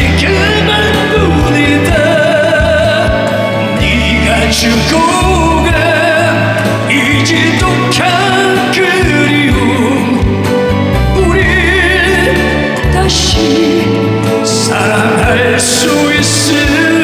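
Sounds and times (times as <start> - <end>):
band backing with bass line: 0.0 - 17.0
person singing ballad with vibrato: 0.0 - 17.0.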